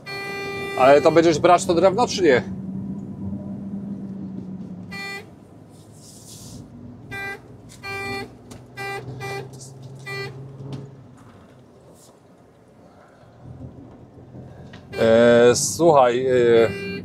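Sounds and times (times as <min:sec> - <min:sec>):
truck engine hum: 0:00.0 - 0:17.0.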